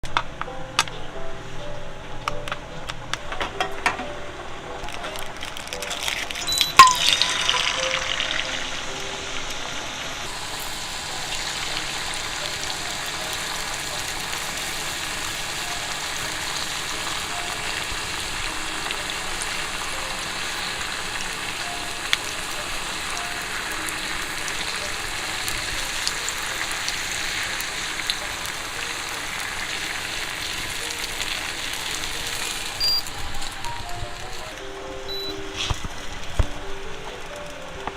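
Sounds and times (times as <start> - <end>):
eggs sizzling in a pan: 4.8 - 37.9.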